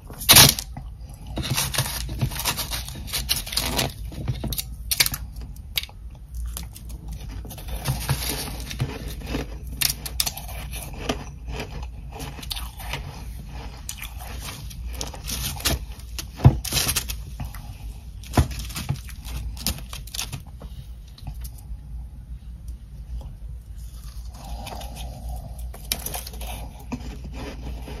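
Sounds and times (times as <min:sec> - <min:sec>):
ice crunching when chewed: 0:00.0 - 0:21.7, 0:23.8 - 0:28.0.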